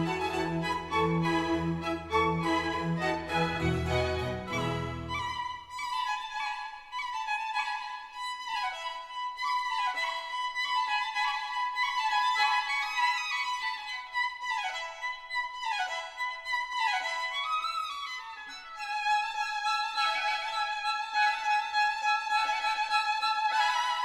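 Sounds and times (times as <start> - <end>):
classical violin music: 0.0 - 24.0.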